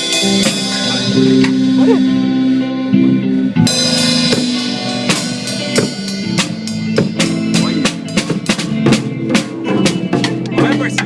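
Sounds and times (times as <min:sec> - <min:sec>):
band music: 0:00.0 - 0:11.0
drum kit: 0:00.0 - 0:11.0
guitar playing held chords: 0:00.0 - 0:11.0.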